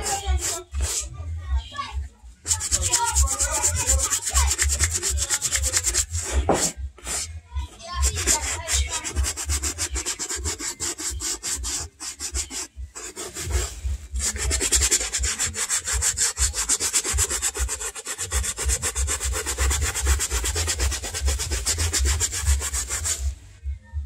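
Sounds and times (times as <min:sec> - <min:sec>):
brush scrubbing suede boot: 0:02.4 - 0:23.4.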